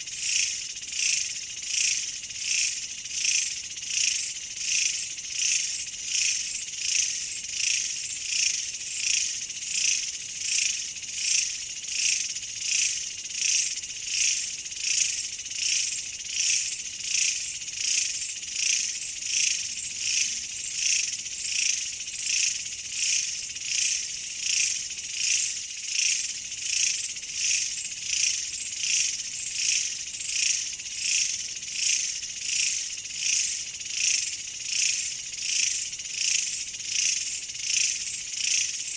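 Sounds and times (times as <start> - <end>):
shrill insect chorus: 0.0 - 38.9.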